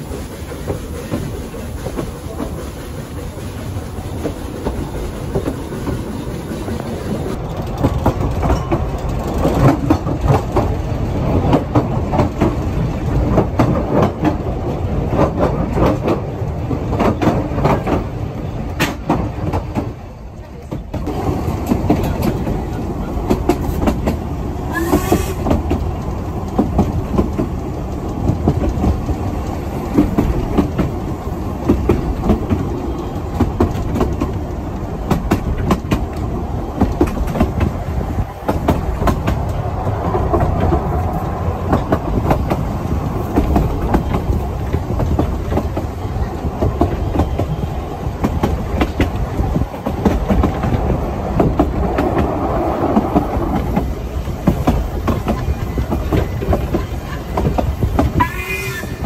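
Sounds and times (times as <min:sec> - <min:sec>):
train rumbling: 0:00.0 - 0:59.0
wheels clicking over rails: 0:00.0 - 0:59.0.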